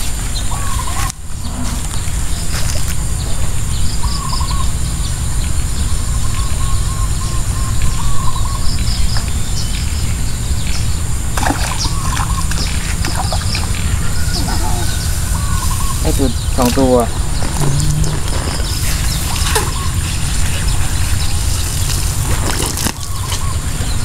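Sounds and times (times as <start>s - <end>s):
birds chirping: 0.0s - 24.0s
steady low rumble: 1.2s - 24.0s.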